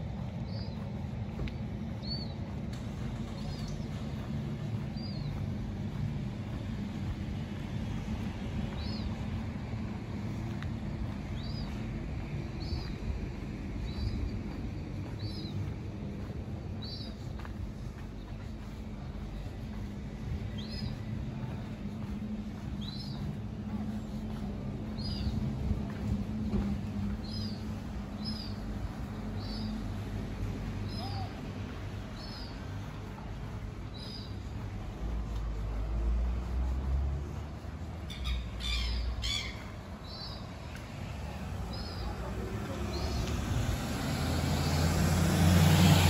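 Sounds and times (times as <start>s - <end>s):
steady low hum: 0.0s - 45.5s.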